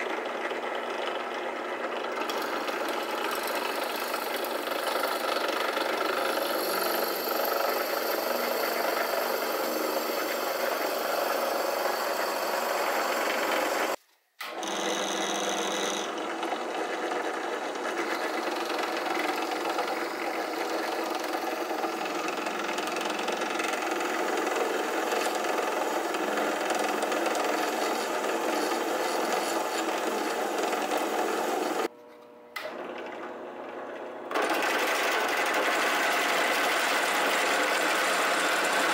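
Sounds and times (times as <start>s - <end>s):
drill press cutting: 0.0s - 31.9s, 32.6s - 38.9s.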